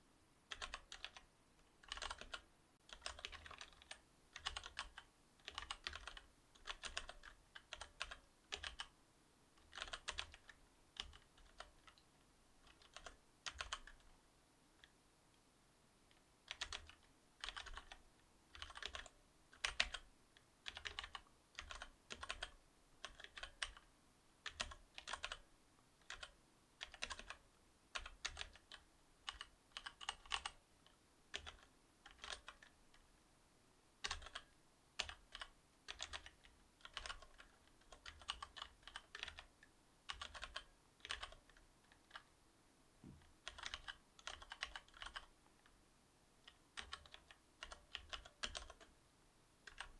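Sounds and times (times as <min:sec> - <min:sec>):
typing on mechanical keyboard: 0:00.5 - 0:08.9, 0:09.6 - 0:12.0, 0:12.6 - 0:14.1, 0:16.5 - 0:25.4, 0:26.0 - 0:32.8, 0:34.0 - 0:42.3, 0:43.4 - 0:45.3, 0:46.4 - 0:48.9, 0:49.6 - 0:49.9.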